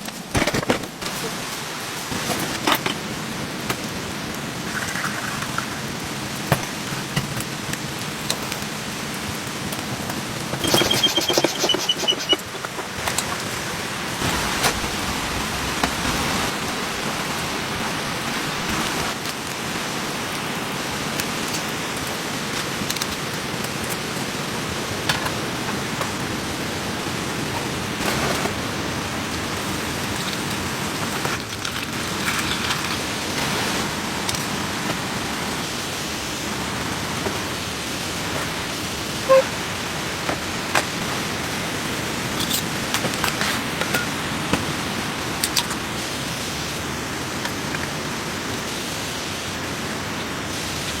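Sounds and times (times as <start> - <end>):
steady rain falling: 0.0 - 10.7, 11.5 - 51.0.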